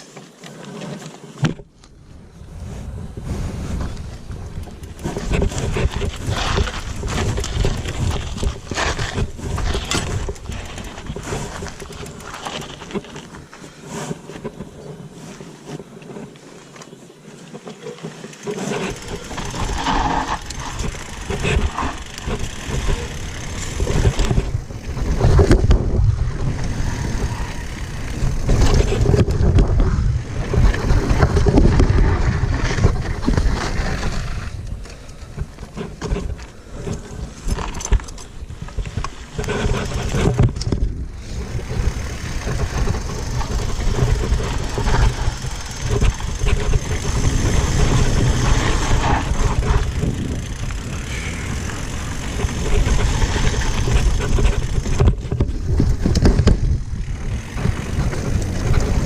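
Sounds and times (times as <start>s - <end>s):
bike rattling on dirt trail: 0.0s - 59.0s.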